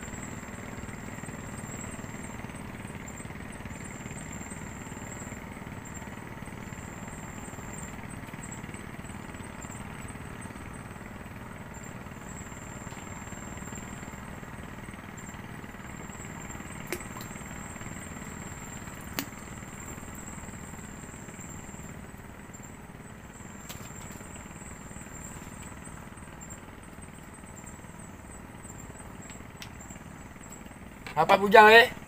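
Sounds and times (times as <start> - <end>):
night insects trilling: 0.0 - 32.0
small engine droning: 0.0 - 32.0.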